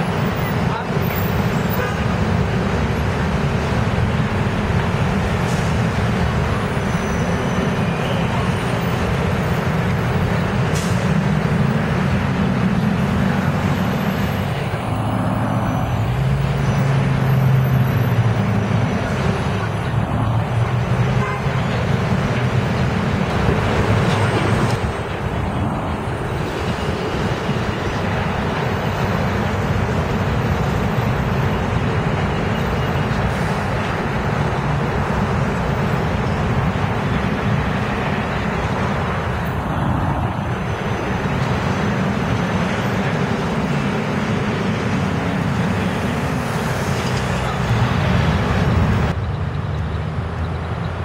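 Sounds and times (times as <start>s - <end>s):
buses and street traffic passing: 0.0s - 51.0s.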